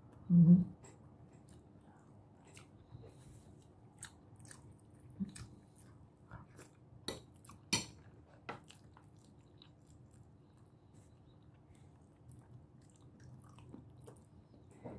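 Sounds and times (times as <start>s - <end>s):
person chewing: 1.4s - 14.6s.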